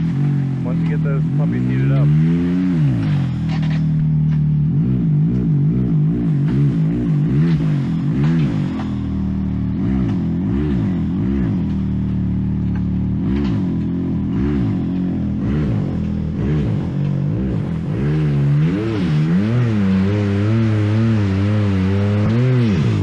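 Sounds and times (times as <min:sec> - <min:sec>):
engine revving in throttle blips: 0:00.0 - 0:23.0.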